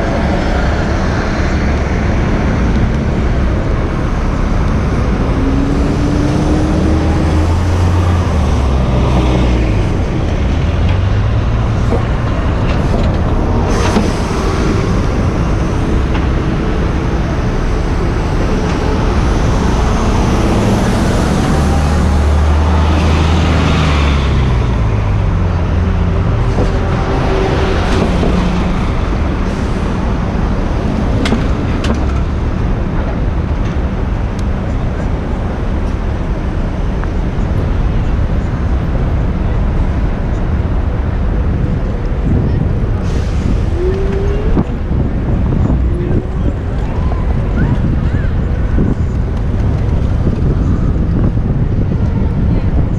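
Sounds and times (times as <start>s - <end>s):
car and bus engines passing: 0.0s - 52.9s
roadway rumble: 0.0s - 52.9s.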